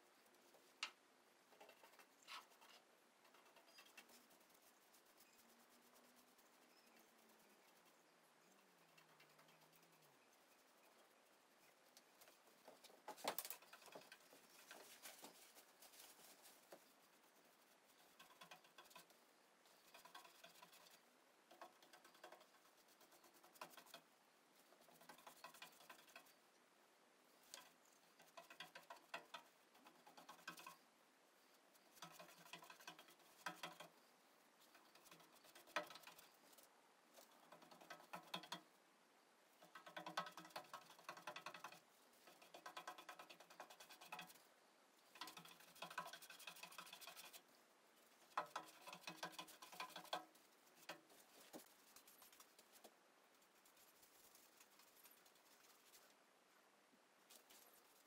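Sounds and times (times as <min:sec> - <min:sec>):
paintbrush scratching on metal: 0:00.2 - 0:26.4, 0:27.3 - 0:38.8, 0:39.5 - 0:56.2, 0:57.3 - 0:58.0.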